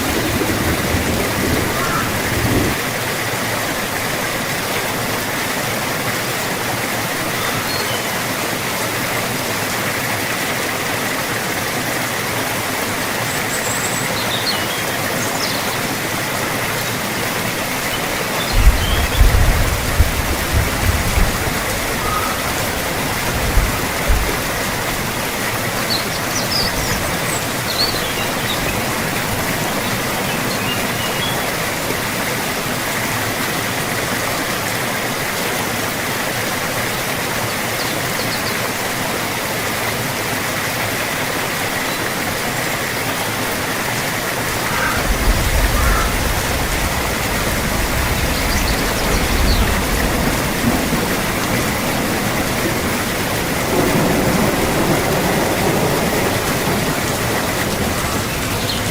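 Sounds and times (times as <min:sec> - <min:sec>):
heavy rainfall: 0:00.0 - 0:58.9.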